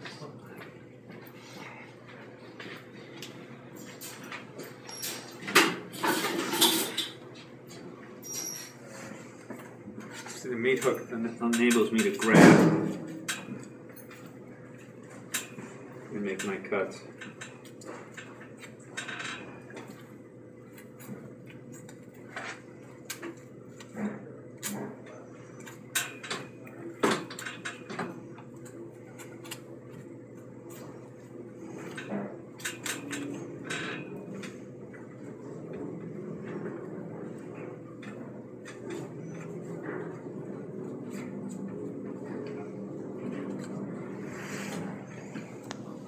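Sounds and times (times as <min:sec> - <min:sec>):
steady low hum: 0:00.0 - 0:04.8, 0:05.4 - 0:46.0.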